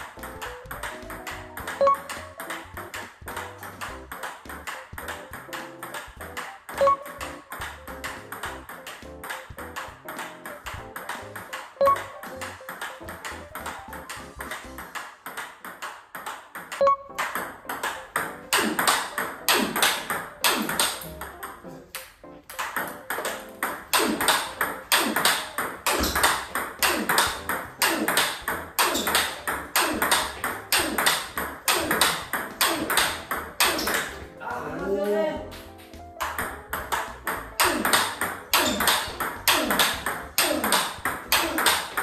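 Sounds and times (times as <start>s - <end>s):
background music: 0.0s - 15.0s, 16.8s - 42.0s
ball bouncing on table: 0.0s - 42.0s
ping-pong ball clicking off bats: 0.0s - 42.0s.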